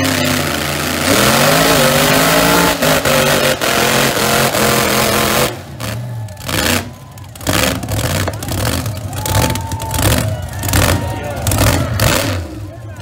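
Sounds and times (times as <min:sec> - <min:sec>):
truck engines revving high: 0:00.0 - 0:13.0.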